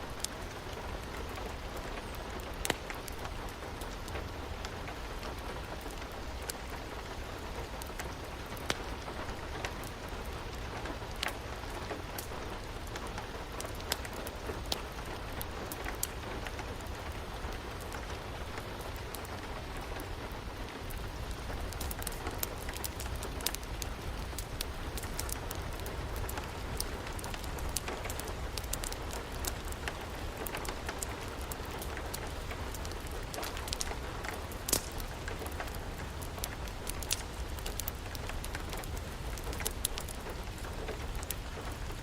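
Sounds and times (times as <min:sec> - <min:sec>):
steady rain: 0:00.0 - 0:42.0
wood fire crackling and popping: 0:00.0 - 0:42.0.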